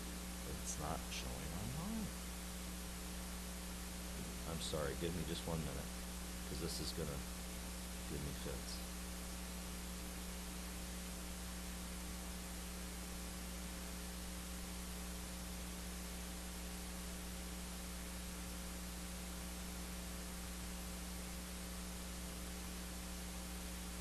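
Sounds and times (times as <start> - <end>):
electrical mains hum: 0.0 - 24.0
recording hiss: 0.0 - 24.0.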